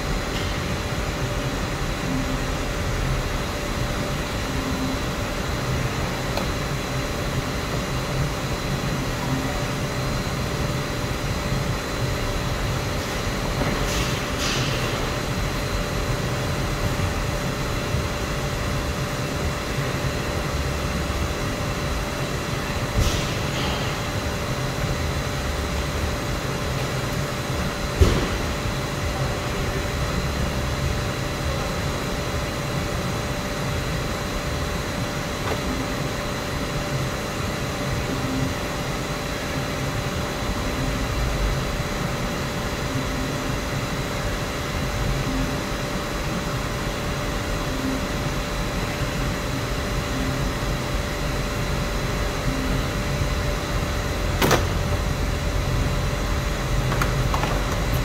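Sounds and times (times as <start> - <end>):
mechanical hum with whine: 0.0 - 58.0.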